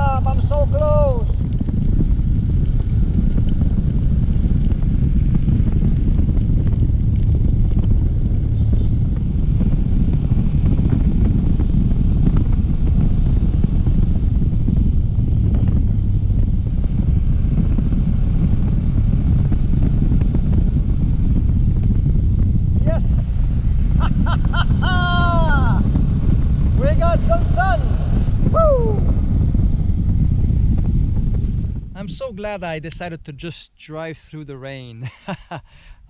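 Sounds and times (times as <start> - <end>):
motorcycle engine running: 0.0 - 32.2
wind buffeting microphone: 0.0 - 33.5.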